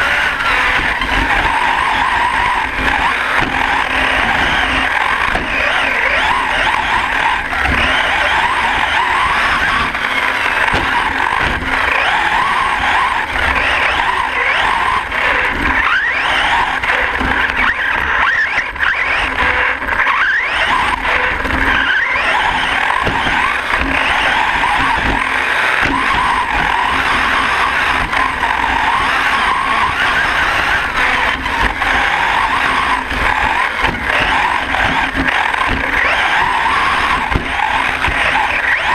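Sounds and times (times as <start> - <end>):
chassis rumbling and knocking: 0.0 - 38.9
electric motor whining: 0.0 - 38.9.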